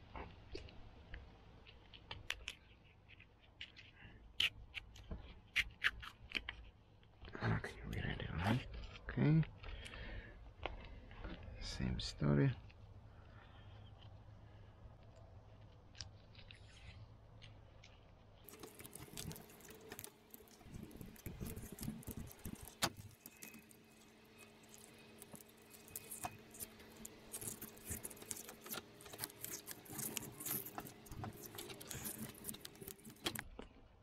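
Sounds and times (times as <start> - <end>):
tape crackling and rustling: 0.0 - 11.6, 12.4 - 34.0
low steady hum: 6.5 - 34.0.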